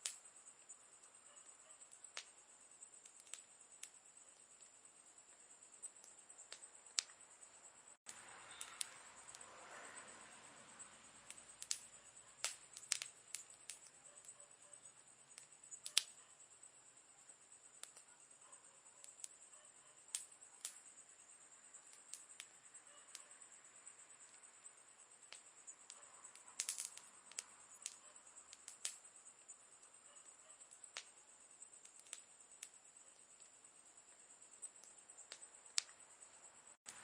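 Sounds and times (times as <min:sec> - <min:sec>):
campfire crackling and popping: 0:00.0 - 0:07.2, 0:08.0 - 0:09.4, 0:11.2 - 0:14.4, 0:15.2 - 0:16.8, 0:17.4 - 0:18.4, 0:19.1 - 0:19.4, 0:20.0 - 0:23.3, 0:24.2 - 0:36.0, 0:36.8 - 0:37.0.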